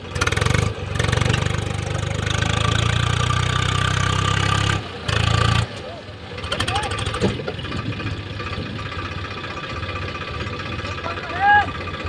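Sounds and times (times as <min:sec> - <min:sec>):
tractor diesel engine revving: 0:00.0 - 0:12.0.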